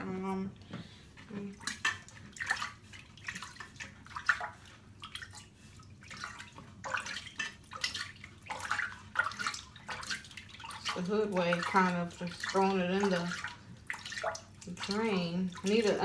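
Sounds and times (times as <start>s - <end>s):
water splashing and dripping: 1.2s - 16.0s.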